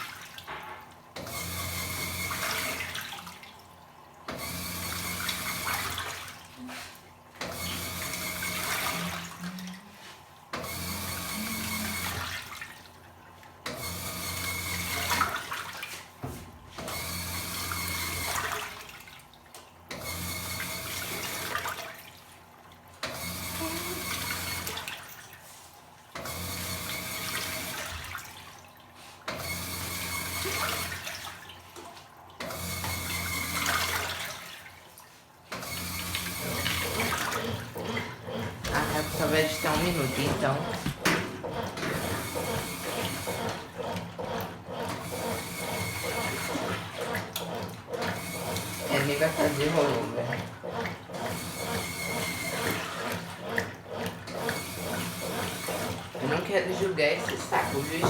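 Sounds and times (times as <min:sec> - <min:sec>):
washing machine motor hum: 0:00.0 - 0:58.0
water and clothes sloshing: 0:00.0 - 0:58.0.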